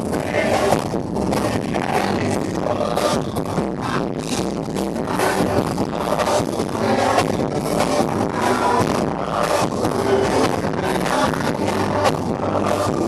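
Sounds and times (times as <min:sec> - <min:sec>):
live band over loudspeakers: 0:00.0 - 0:13.0.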